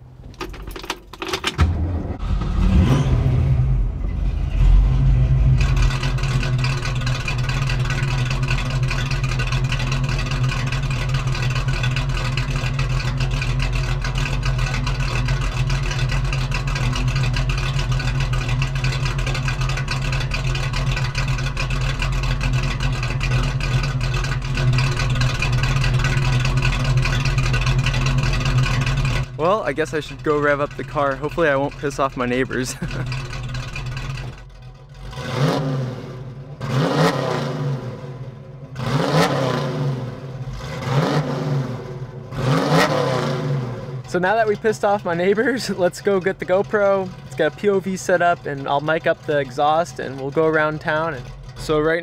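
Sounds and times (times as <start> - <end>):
car engine starting and idling: 0.0 - 52.0.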